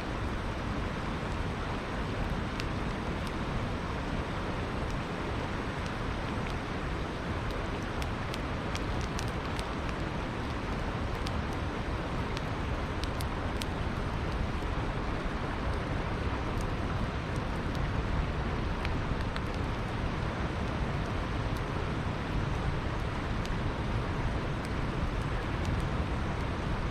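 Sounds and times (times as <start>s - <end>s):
campfire crackling and popping: 0.1s - 26.9s.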